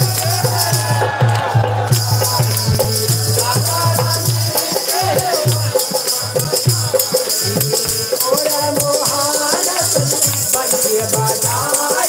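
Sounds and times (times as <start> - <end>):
jingling hand percussion: 0.0 - 12.0.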